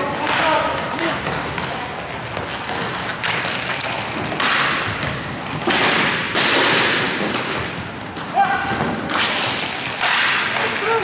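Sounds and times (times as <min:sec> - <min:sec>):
hockey sticks tapping ball: 0:00.0 - 0:11.0.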